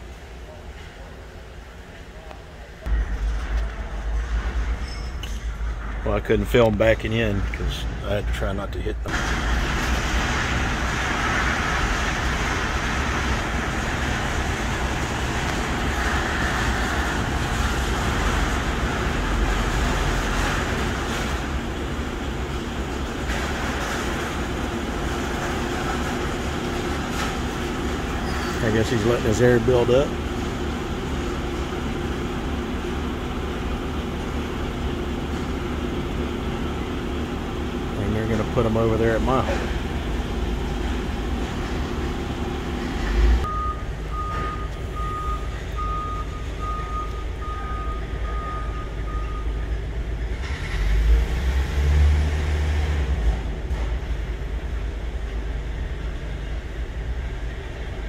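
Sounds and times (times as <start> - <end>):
diesel truck engines idling: 0.0 - 58.0.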